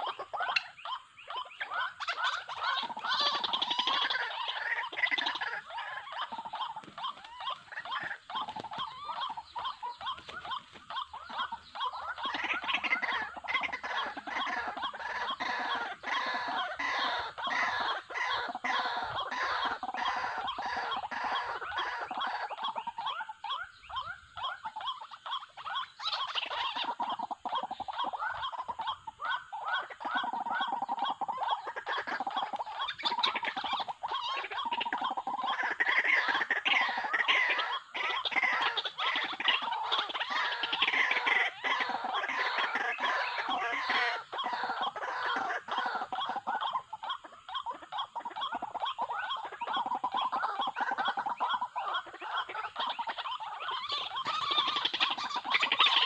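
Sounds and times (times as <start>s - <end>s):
bird harsh repeated calls: 0.0s - 56.0s.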